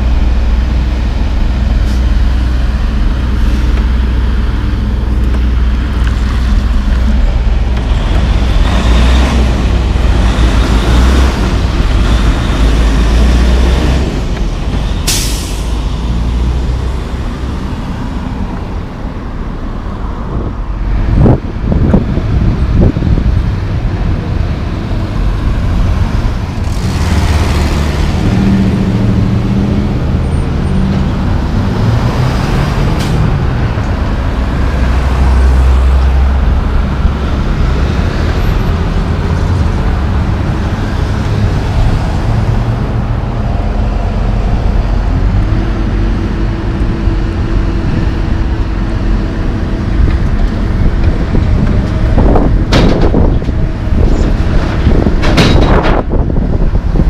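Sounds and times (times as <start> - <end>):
road traffic driving past: 0.0 - 57.0
truck engine rumble: 0.0 - 57.0.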